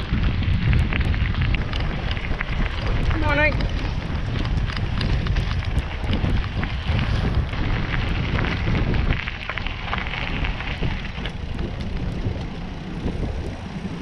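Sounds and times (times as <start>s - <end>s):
bicycle tyres rolling on gravel: 0.0s - 14.0s
wind buffeting microphone: 0.0s - 14.0s.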